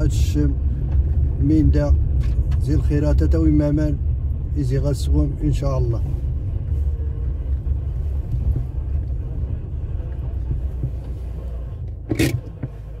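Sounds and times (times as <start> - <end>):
vehicle rumbling on dirt track: 0.0 - 13.0.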